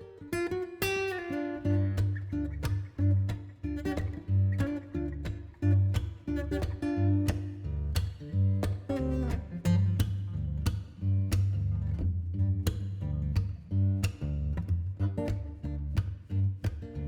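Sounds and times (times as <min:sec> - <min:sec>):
plucked and strummed guitar: 0:00.0 - 0:17.0
steady bass line: 0:01.8 - 0:17.0.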